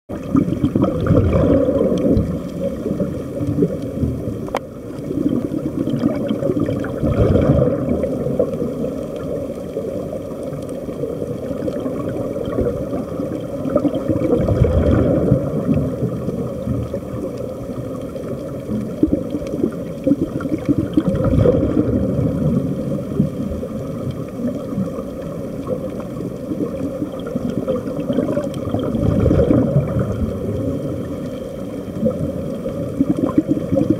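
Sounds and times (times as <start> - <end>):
underwater air bubbles gurgling: 0.1 - 33.9.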